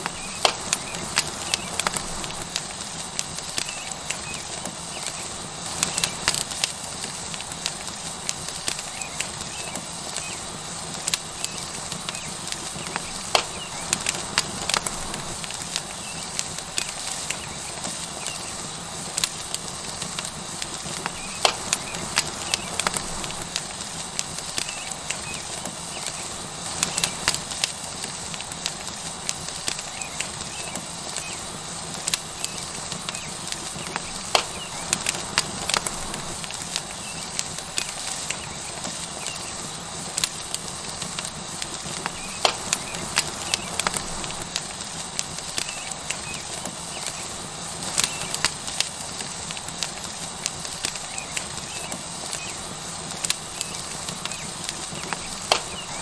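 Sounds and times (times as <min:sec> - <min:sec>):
burning wood crackling and popping: 0:00.0 - 0:56.0
steak sizzling on hot rock: 0:00.0 - 0:56.0.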